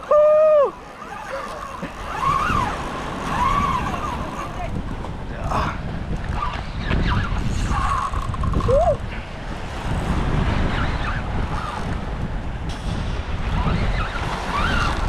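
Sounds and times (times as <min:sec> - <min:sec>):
waves washing against jetty: 0:00.0 - 0:15.0
wind buffeting microphone: 0:00.0 - 0:15.0.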